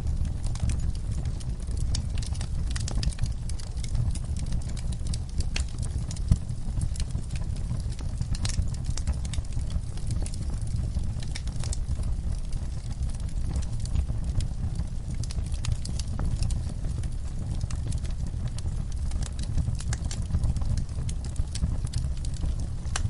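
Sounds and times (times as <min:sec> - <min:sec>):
fire crackling and popping: 0:00.0 - 0:23.0
fire low rumble: 0:00.0 - 0:23.0.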